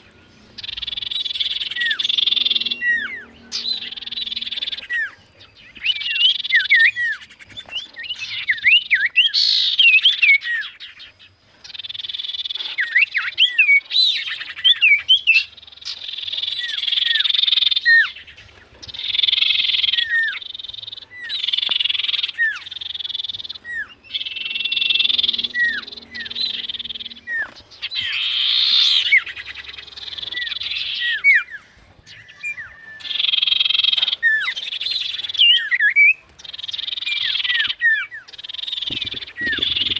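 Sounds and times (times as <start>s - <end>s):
bird whistled calls: 0.0s - 39.9s
dense buzzing chatter: 0.0s - 39.9s.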